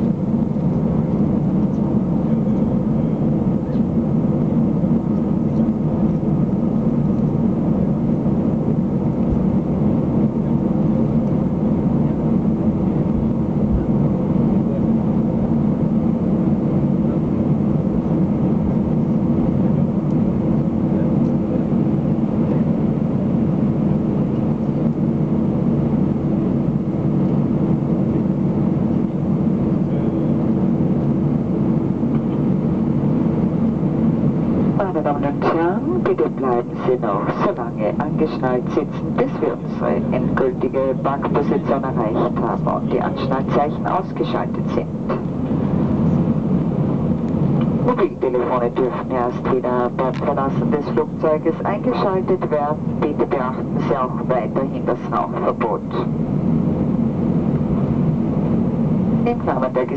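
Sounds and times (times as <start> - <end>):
aircraft cabin engine hum: 0.0 - 59.9.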